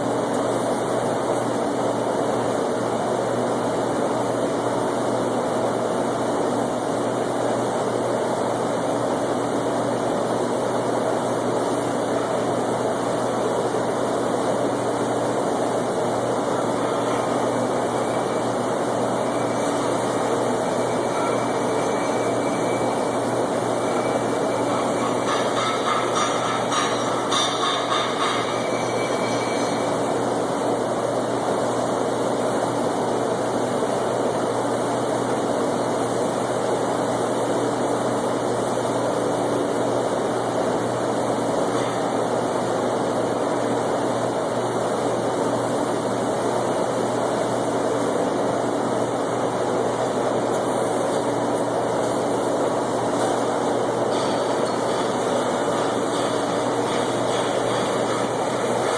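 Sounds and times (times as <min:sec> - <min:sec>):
steady mechanical drone: 0:00.0 - 0:58.9.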